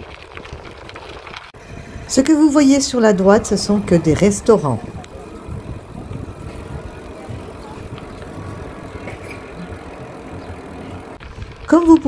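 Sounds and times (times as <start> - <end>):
tyres rolling on asphalt: 0.0 - 12.0
wind on microphone: 0.0 - 12.0.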